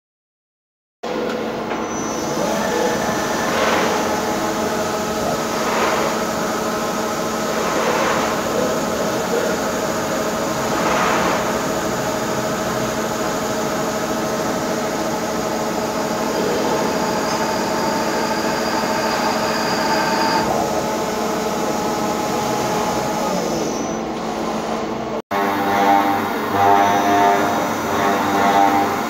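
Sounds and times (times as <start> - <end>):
high machine whine: 1.1 - 29.0
lathe machine hum: 1.1 - 29.0.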